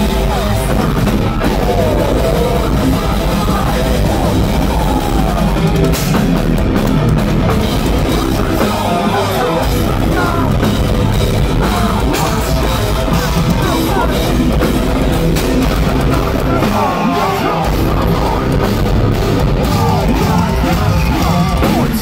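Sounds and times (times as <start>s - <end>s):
distorted electric guitars: 0.0s - 22.0s
pounding drum kit: 0.0s - 22.0s.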